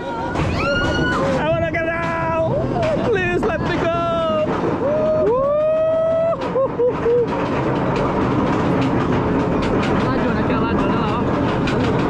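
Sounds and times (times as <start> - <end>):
coaster train clattering: 0.0 - 12.0.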